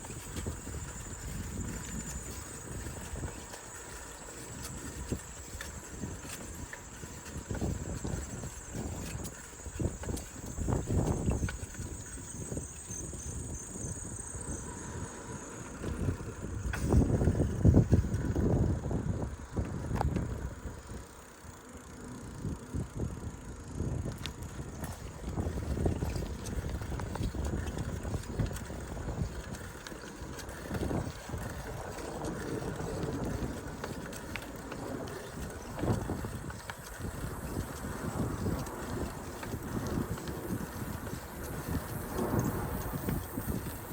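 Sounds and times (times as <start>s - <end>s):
bicycle tyre rolling noise: 0.0s - 43.9s
wind rumble on microphone: 0.0s - 43.9s.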